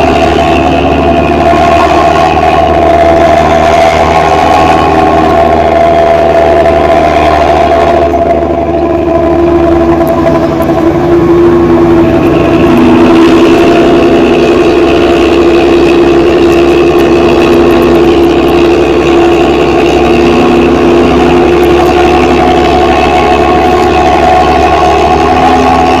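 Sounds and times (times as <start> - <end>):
diesel bus engine droning: 0.0 - 26.0.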